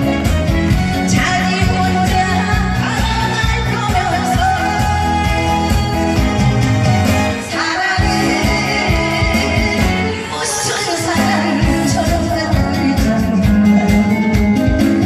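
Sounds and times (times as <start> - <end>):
live band with drums and bass: 0.0 - 15.0.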